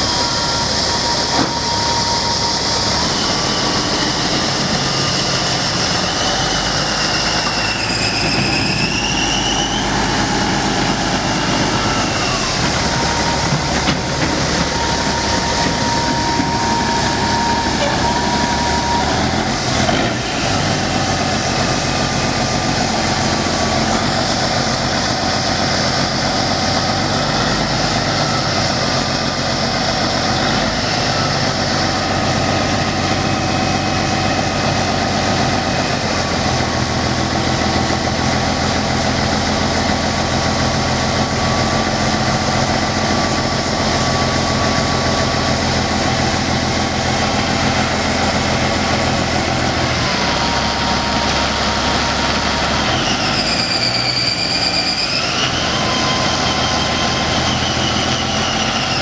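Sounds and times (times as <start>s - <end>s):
diesel truck idling: 0.0s - 59.0s
high whine: 0.0s - 59.0s.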